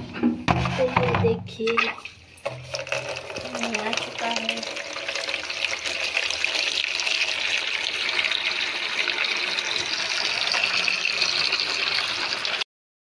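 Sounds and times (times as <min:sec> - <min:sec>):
tap water pouring into tub: 0:01.6 - 0:12.6.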